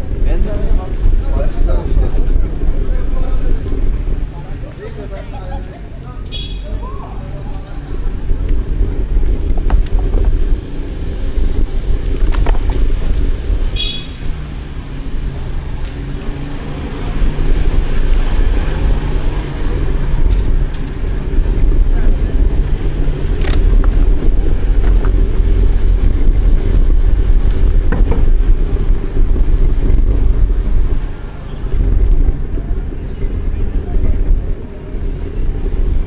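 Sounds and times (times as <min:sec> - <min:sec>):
traffic rumble: 0:00.0 - 0:36.0
wind buffeting microphone: 0:00.0 - 0:36.0.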